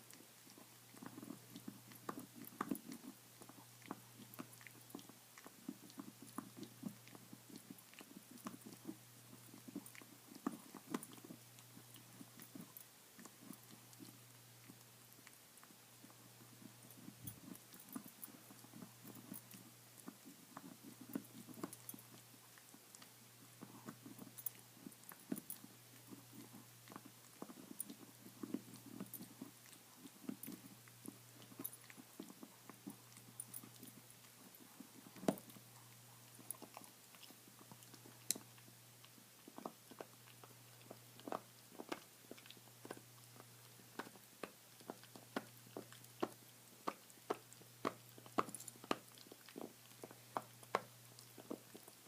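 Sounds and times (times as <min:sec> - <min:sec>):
dog gnawing on a bone: 0:00.0 - 0:52.0.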